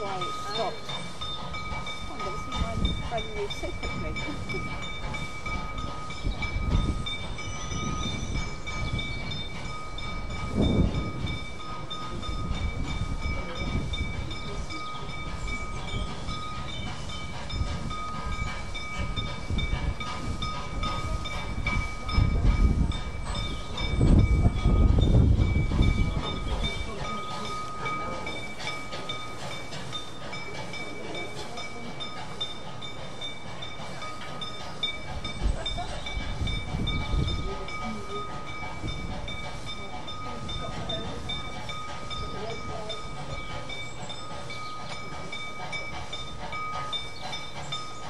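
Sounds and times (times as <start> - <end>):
steam locomotive rumble: 0.0 - 48.0.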